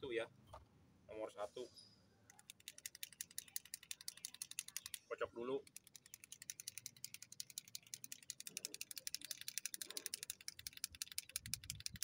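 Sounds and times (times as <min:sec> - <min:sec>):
paint pen ball rattling: 0:02.3 - 0:12.0.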